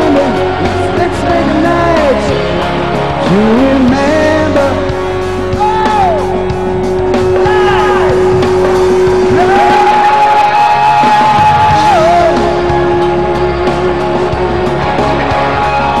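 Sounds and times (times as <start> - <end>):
electric guitar lead: 0.0 - 16.0
rock band playing: 0.0 - 16.0.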